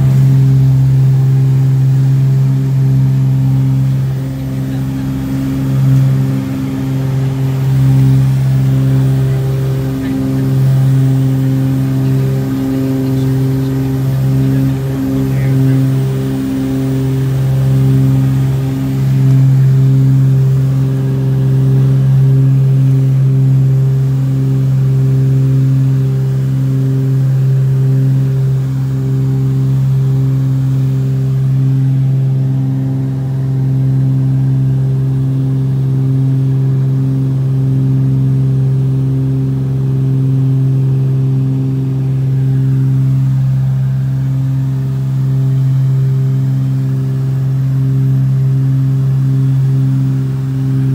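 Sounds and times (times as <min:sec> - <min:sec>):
aircraft cabin engine drone: 0:00.0 - 0:50.9.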